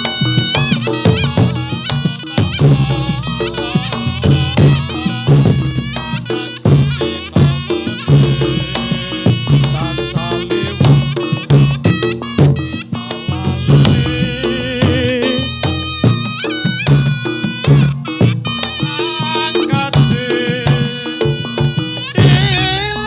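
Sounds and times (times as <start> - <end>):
drums and gongs beat: 0.0 - 23.0
wailing shawm melody: 0.0 - 23.0.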